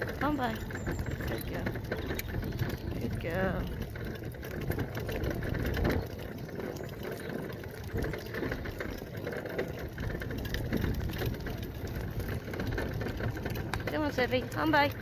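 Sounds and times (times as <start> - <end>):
electric wheelchair rolling: 0.0 - 15.0.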